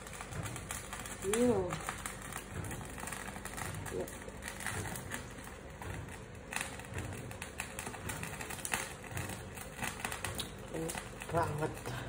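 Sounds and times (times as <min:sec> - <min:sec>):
soup bubbles popping: 0:00.0 - 0:11.9.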